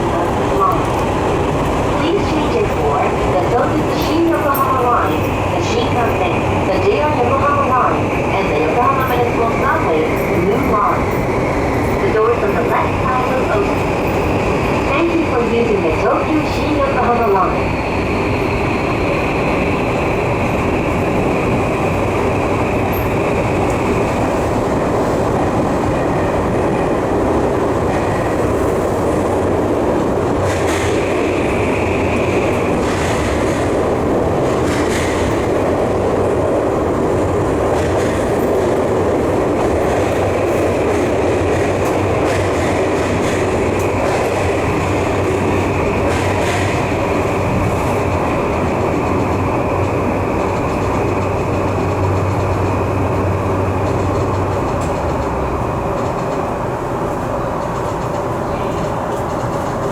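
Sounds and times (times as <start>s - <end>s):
train running noise: 0.0s - 59.9s.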